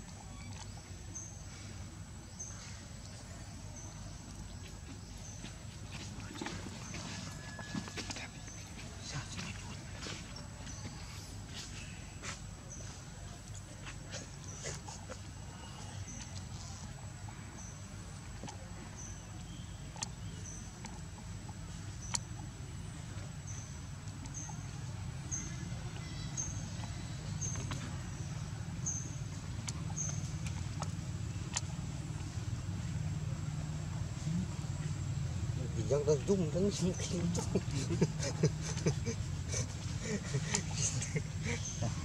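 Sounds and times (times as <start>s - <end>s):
low steady rumble: 0.0s - 42.0s.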